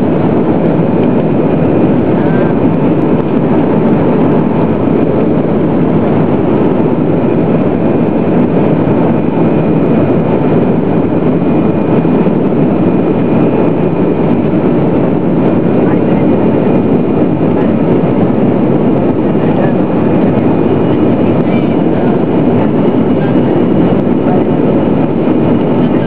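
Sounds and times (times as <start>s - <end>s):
airplane cabin engine and air roar: 0.0s - 26.0s
faint steady whine: 0.0s - 26.0s.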